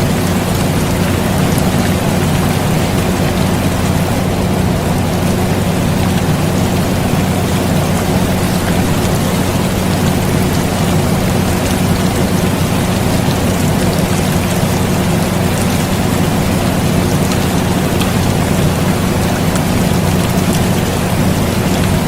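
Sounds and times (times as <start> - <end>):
air conditioner hum: 0.0 - 22.0
steady rain: 0.0 - 22.0.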